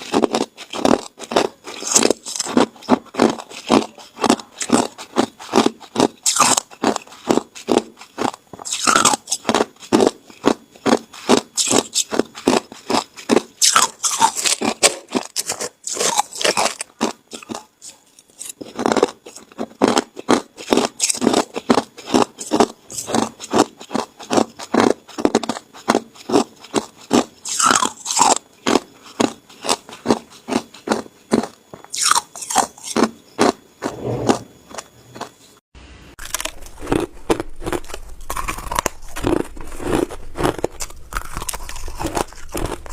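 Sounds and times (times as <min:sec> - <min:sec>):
ice being chewed: 0:00.0 - 0:35.5, 0:36.2 - 0:42.9.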